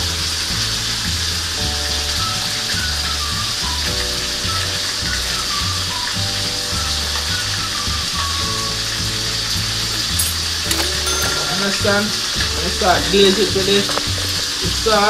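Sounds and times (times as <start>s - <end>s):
background music with bass line: 0.0s - 15.0s
chicken sizzling in a pan: 0.0s - 15.0s.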